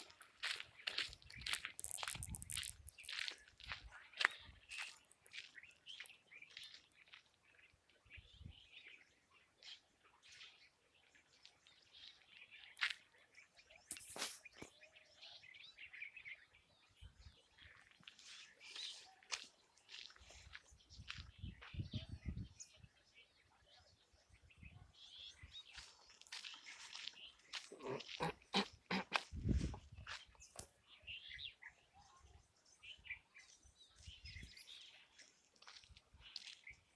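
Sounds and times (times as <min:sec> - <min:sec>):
birds chirping faintly: 0:00.0 - 0:36.9.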